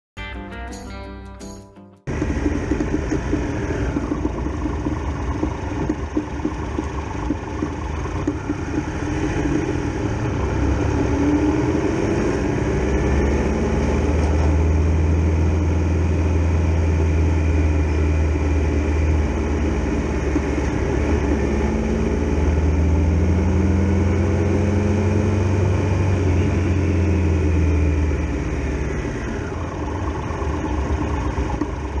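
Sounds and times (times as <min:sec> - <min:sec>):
motorcycle engine running: 0:02.1 - 0:32.0.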